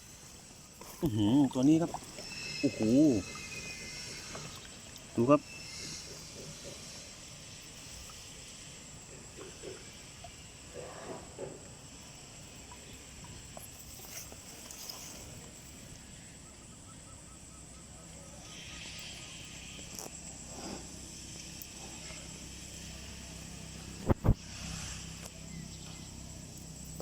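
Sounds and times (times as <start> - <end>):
high-pitched insect drone: 0.0 - 10.8, 11.7 - 27.0.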